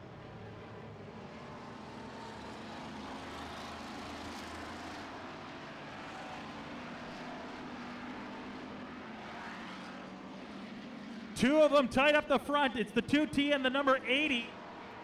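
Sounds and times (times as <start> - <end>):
distant race car engines drone: 0.0 - 15.0.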